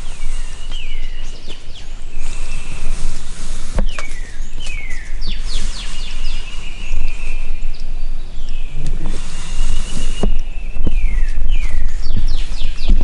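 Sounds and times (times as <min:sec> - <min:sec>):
birds singing and calling: 0:00.0 - 0:13.0
low rumble: 0:00.0 - 0:13.0.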